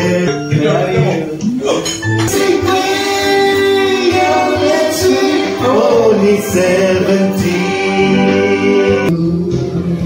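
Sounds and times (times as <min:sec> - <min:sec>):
person singing through microphone: 0:00.0 - 0:01.5, 0:02.2 - 0:10.0
backing track music: 0:00.0 - 0:10.0.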